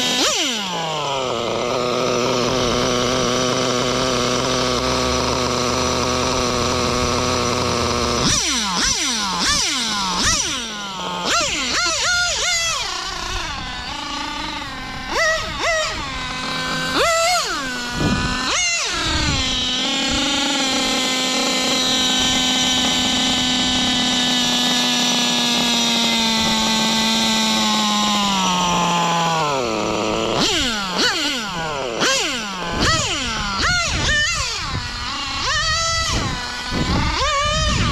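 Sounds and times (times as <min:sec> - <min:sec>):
model engine revving: 0:00.0 - 0:37.9.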